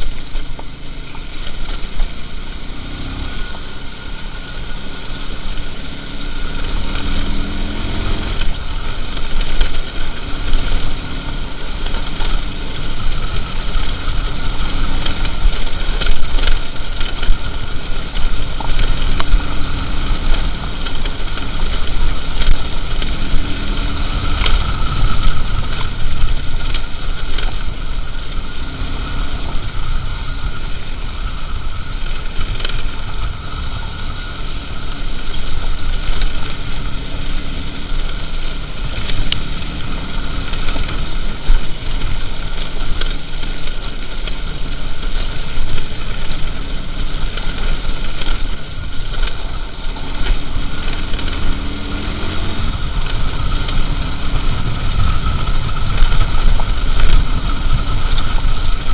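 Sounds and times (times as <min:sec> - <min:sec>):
motorcycle engine: 0:00.0 - 0:58.9
wind rumble on microphone: 0:00.0 - 0:58.9.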